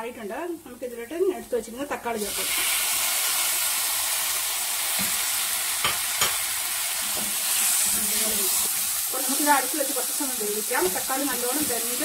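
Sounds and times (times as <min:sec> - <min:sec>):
tomatoes sizzling in hot oil: 0:00.1 - 0:12.0.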